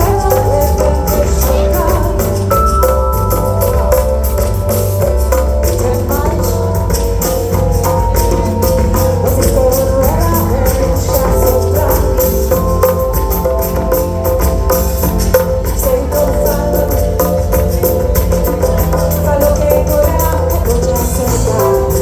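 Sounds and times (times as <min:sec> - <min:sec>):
bass line: 0:00.0 - 0:22.0
live band playing: 0:00.0 - 0:22.0
quick percussion: 0:00.0 - 0:22.0
sustained melody line: 0:00.0 - 0:22.0.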